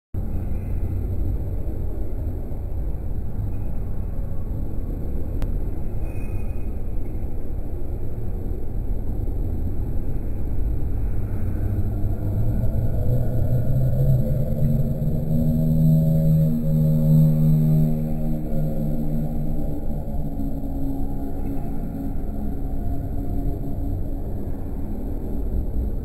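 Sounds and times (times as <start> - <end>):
low background rumble: 0.2 - 26.0.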